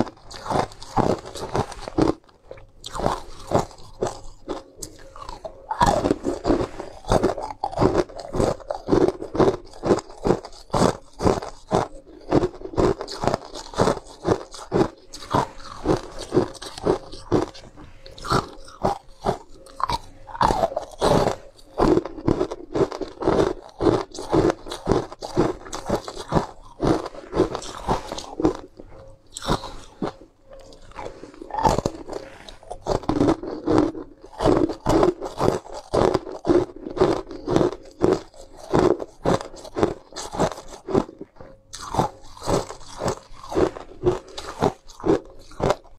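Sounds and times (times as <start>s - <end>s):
chewing ice cubes: 0.0s - 45.9s.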